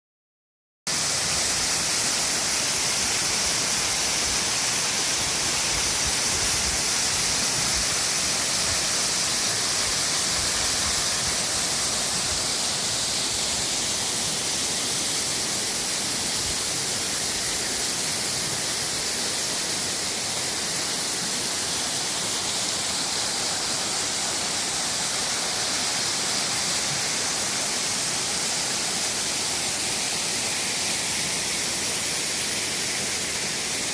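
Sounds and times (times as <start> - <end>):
waterfall rushing: 0.9 - 33.9.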